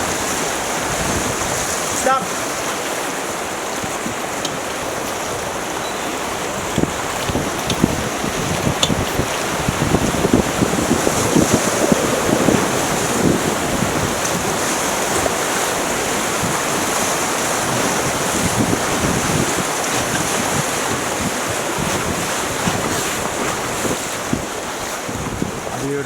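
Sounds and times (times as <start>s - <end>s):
river water rushing over rapids: 0.0s - 26.0s
wind buffeting microphone: 0.0s - 26.0s.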